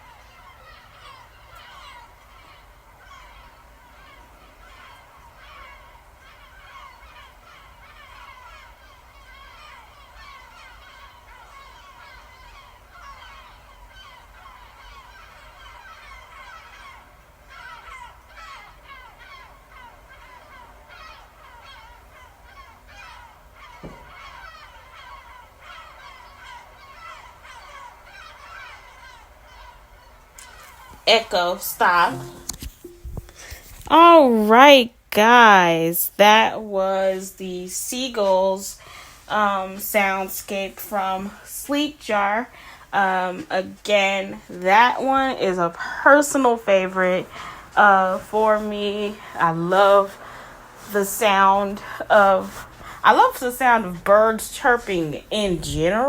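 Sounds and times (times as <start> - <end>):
seagulls calling: 0.0 - 34.2, 38.0 - 56.0.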